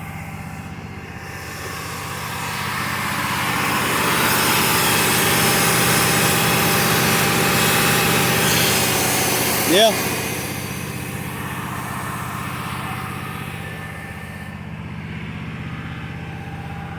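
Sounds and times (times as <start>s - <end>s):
engine running: 0.0s - 16.9s.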